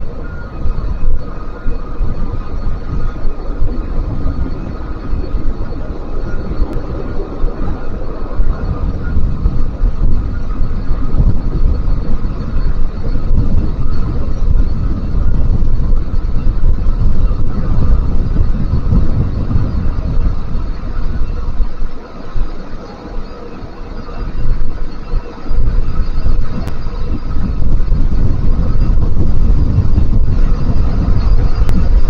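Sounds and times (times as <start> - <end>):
jet airliner rumble: 0.0 - 32.0.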